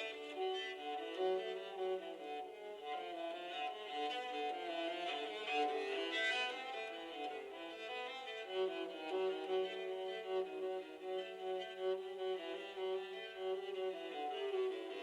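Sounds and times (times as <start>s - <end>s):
violin string melody: 0.0s - 15.0s.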